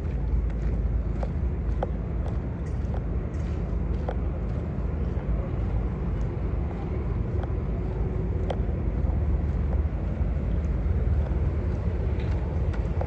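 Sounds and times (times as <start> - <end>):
low rumble of road traffic: 0.0 - 13.0
wind buffeting microphone: 0.0 - 13.0.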